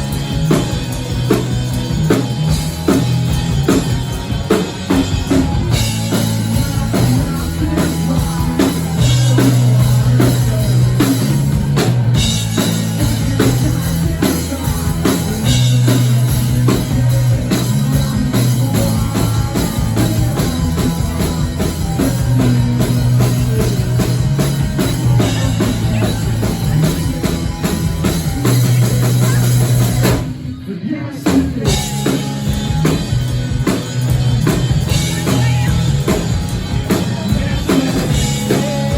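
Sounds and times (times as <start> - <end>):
drum kit beat: 0.0 - 30.6, 31.2 - 38.9
bass guitar: 0.0 - 38.9
electric guitars: 0.0 - 38.9.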